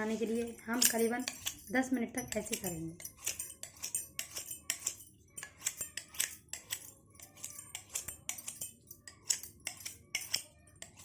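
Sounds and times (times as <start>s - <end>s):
knife scraping on cup rim: 0.8s - 11.0s.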